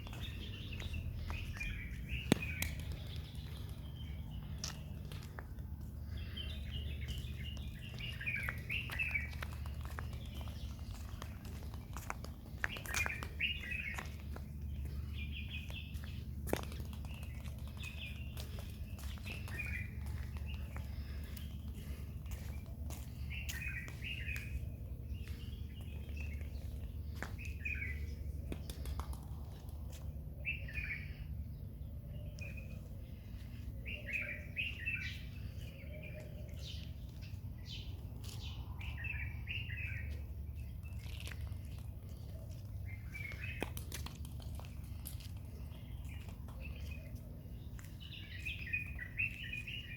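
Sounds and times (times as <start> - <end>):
small birds chirping: 0.0 - 49.9
steady low hum: 0.0 - 49.9.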